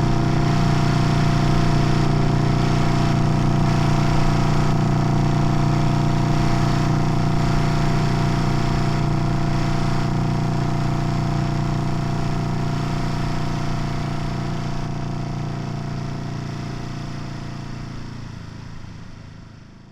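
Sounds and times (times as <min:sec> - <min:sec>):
motorcycle engine running steadily: 0:00.0 - 0:19.9.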